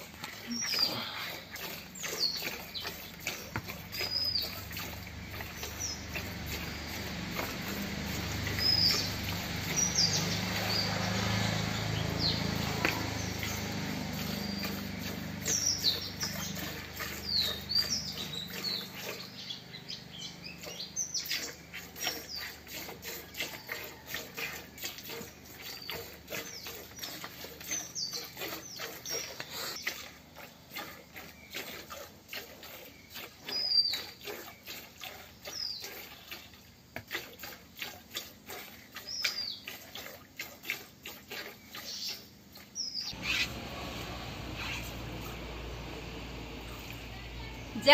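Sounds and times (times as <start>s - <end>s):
milk squirting into plastic bucket: 0.0s - 19.2s, 20.6s - 43.3s
birds chirping: 0.0s - 24.1s, 24.8s - 37.0s, 41.3s - 47.9s.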